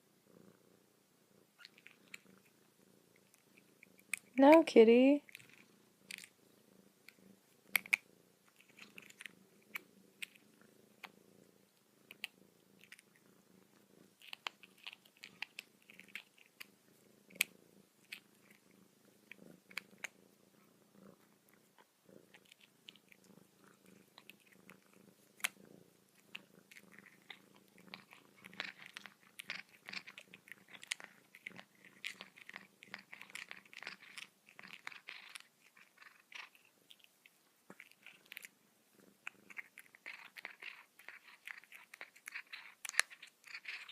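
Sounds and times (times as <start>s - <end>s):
cat purring: 0.0s - 43.9s
licking and chewing clicks: 1.6s - 4.4s, 5.2s - 6.4s, 7.0s - 11.2s, 12.0s - 20.2s, 21.2s - 43.9s.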